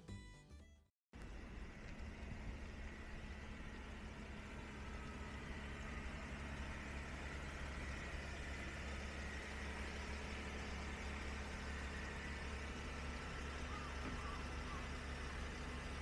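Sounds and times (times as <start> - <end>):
car engine humming: 1.2 - 16.0.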